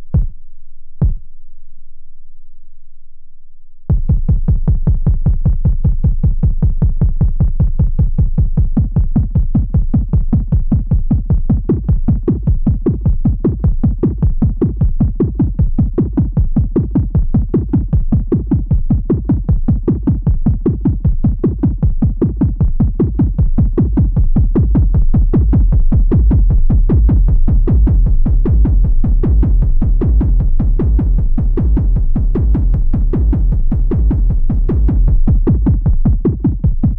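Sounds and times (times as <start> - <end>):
electronic kick drum beat: 0.0 - 0.4, 1.0 - 1.3, 3.9 - 36.9.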